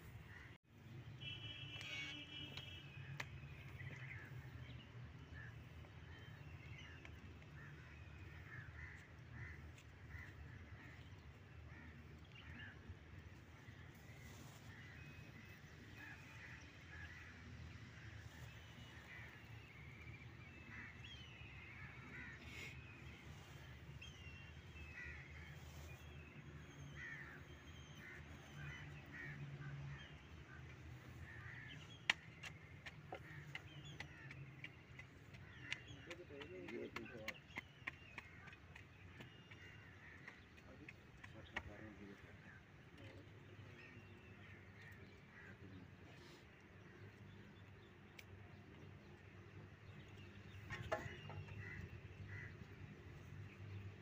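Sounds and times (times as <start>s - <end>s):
birds chattering: 1.2s - 54.0s.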